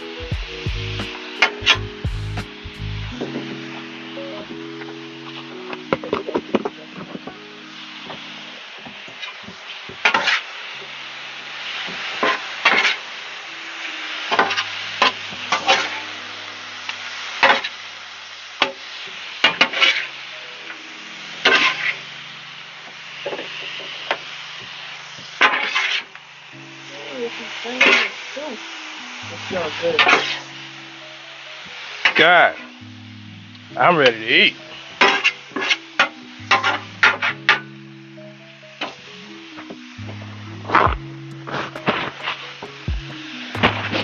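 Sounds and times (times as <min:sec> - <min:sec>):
background music with low notes: 0:00.0 - 0:10.3, 0:10.9 - 0:18.4, 0:19.5 - 0:44.0
vegetables sizzling in a pan: 0:06.9 - 0:37.8, 0:38.4 - 0:44.0.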